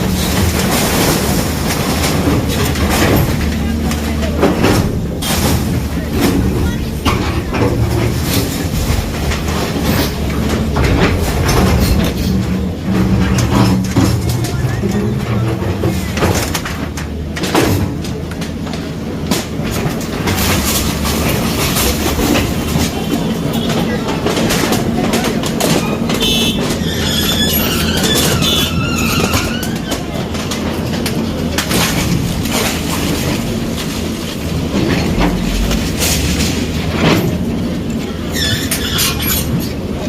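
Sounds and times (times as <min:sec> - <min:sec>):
heavy engine rumbling: 0:00.0 - 0:40.0
metal and debris crashing: 0:00.0 - 0:40.0
metal clanks and knocks: 0:00.0 - 0:40.0.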